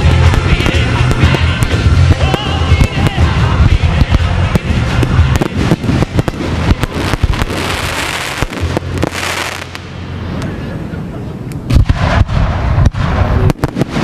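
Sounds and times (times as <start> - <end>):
fireworks bursting: 0.0 - 10.5, 11.5 - 14.0
music track: 0.0 - 11.7.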